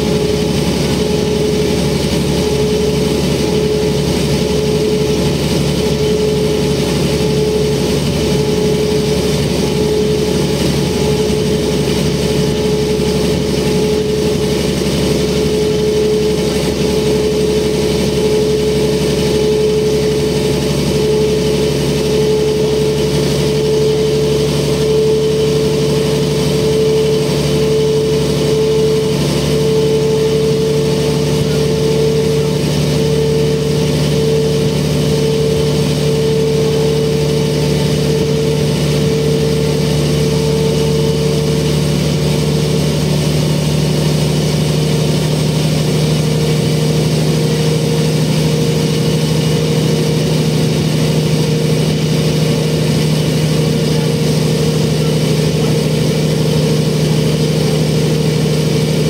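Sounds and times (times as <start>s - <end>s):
bus diesel engine running: 0.0s - 59.0s
low hum: 0.0s - 59.0s.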